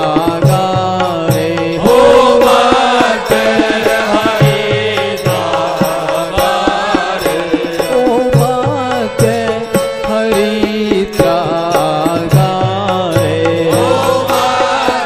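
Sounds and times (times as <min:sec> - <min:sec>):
hand drum beat: 0:00.0 - 0:15.0
person singing: 0:00.0 - 0:15.0.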